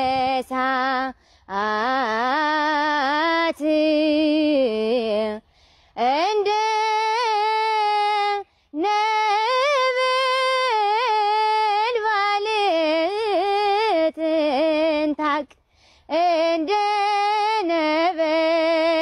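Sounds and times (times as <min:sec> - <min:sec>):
woman singing hymn solo: 0:00.0 - 0:05.4, 0:06.0 - 0:15.5, 0:16.1 - 0:19.0.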